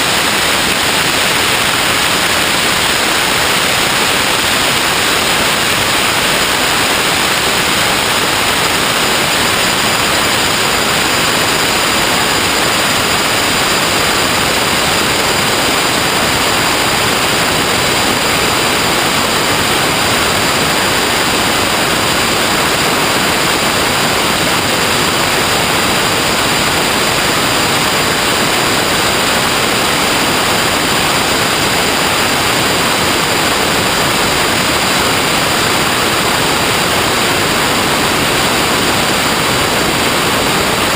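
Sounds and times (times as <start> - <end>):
steady static hiss: 0.0 - 40.9.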